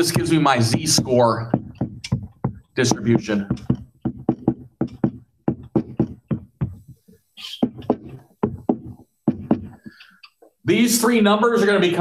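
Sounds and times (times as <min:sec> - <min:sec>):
pen tapping and scraping: 0:00.2 - 0:10.0.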